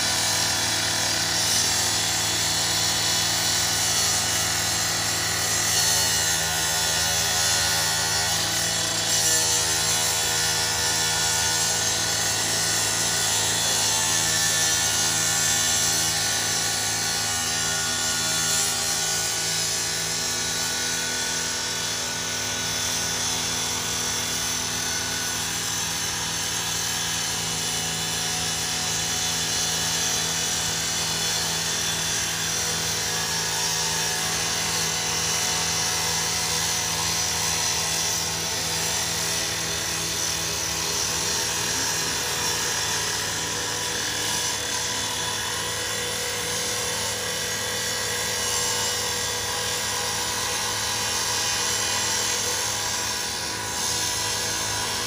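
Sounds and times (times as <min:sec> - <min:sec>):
rotary saw cutting metal: 0:00.0 - 0:55.0
saw engine hum: 0:00.0 - 0:55.0.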